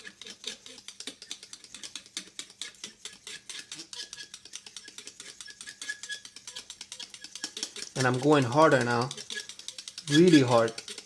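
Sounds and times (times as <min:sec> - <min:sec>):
knife blade scraping glass: 0:00.0 - 0:11.0.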